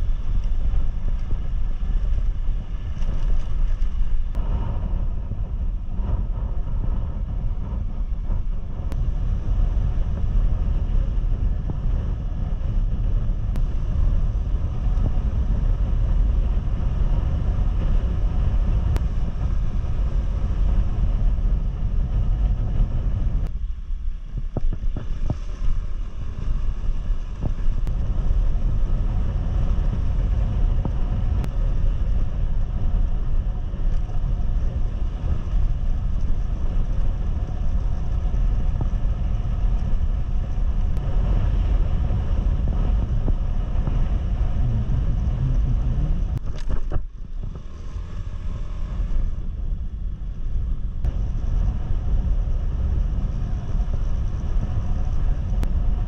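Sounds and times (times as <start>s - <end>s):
motorcycle engine rumble: 0.0s - 56.0s
tyres on road: 0.0s - 56.0s
wind rushing over microphone: 0.0s - 56.0s.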